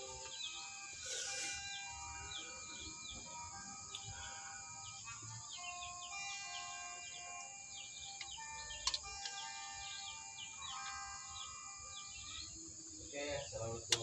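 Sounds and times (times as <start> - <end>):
background music melody: 0.0 - 14.0
bird-like chirps: 0.0 - 14.0.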